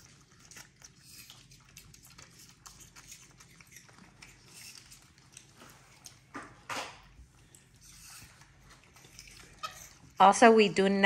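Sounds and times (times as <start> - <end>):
monkeys chewing: 0.0 - 10.6.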